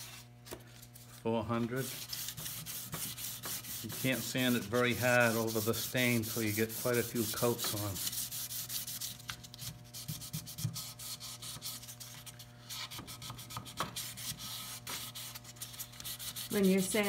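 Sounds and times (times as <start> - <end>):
sandpaper rubbing on wood: 1.7 - 17.0.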